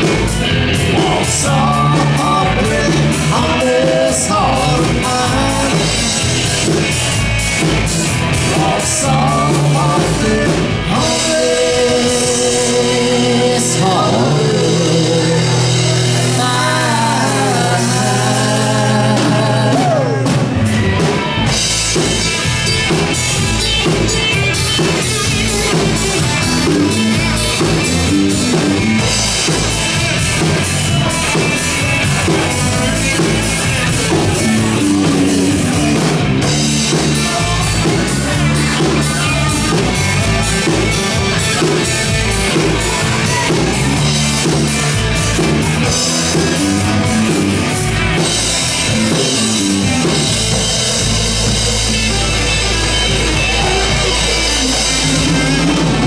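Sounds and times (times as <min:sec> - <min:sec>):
drum kit beat: 0:00.0 - 0:56.0
electric bass: 0:00.0 - 0:56.0
electric guitar: 0:00.0 - 0:56.0.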